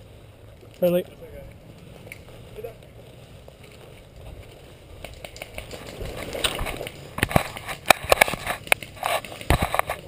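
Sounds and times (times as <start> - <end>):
grass rustling against clothing: 0.0 - 10.0.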